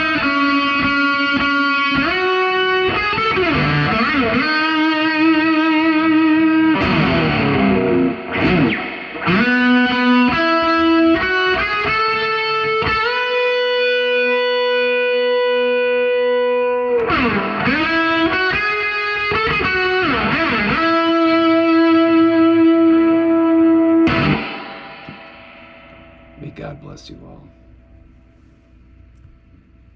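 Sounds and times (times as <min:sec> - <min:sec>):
distorted electric guitar melody: 0:00.0 - 0:28.5.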